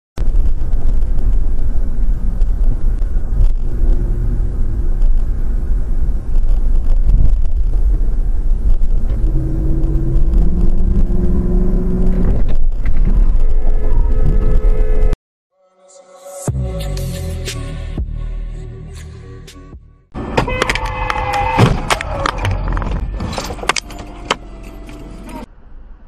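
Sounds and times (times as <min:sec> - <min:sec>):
car engine and road rumble: 0:00.2 - 0:15.2, 0:16.7 - 0:26.0.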